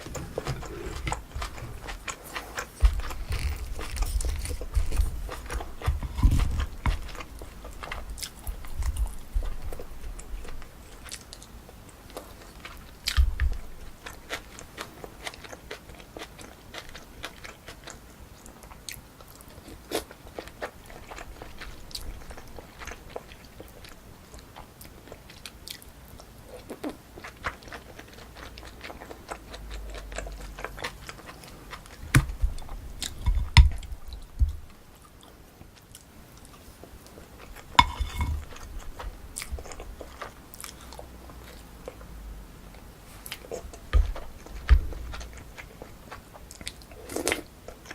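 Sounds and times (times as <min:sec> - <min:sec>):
close chewing with mouth clicks: 0:00.0 - 0:47.9.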